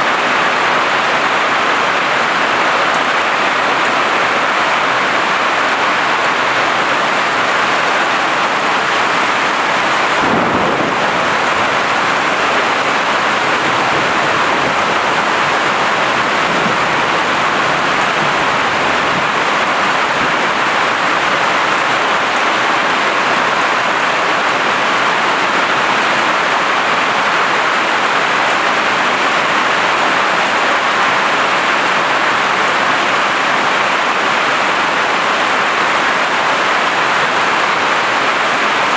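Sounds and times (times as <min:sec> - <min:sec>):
hail drumming on a tin roof: 0:00.1 - 0:32.7.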